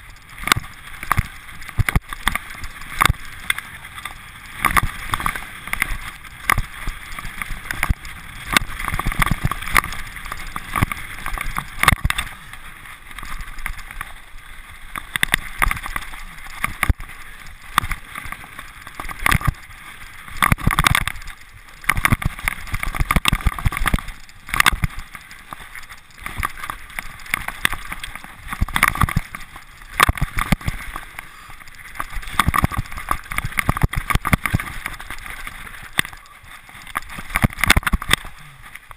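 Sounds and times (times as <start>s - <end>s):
bike rattling over rocks: 0.0s - 38.9s
wheels knocking on stones: 0.0s - 38.9s.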